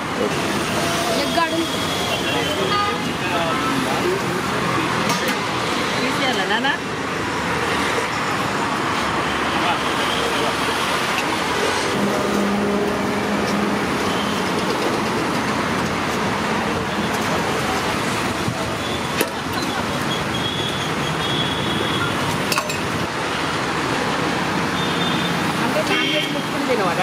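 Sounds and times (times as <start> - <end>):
roadside traffic noise: 0.0 - 27.0.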